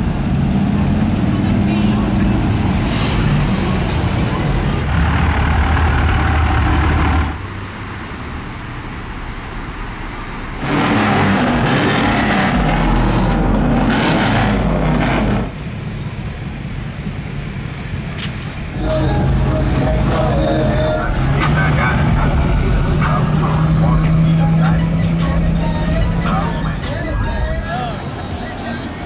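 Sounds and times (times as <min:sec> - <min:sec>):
truck engines in traffic: 0:00.0 - 0:29.0.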